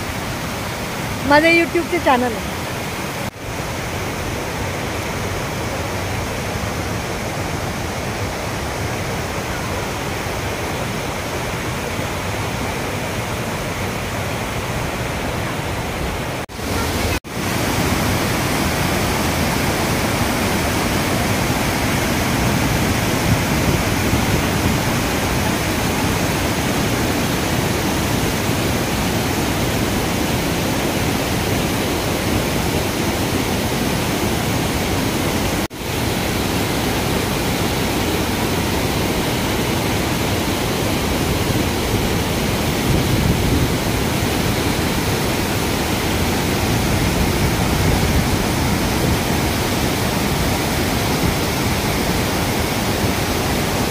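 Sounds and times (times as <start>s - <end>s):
stream rushing over boulders: 0.0s - 53.9s.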